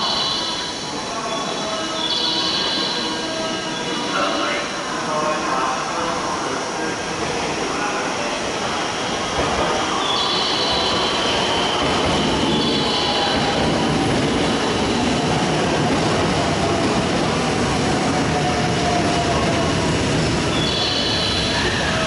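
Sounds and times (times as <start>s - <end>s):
electric train rumble and hum: 0.0s - 22.0s.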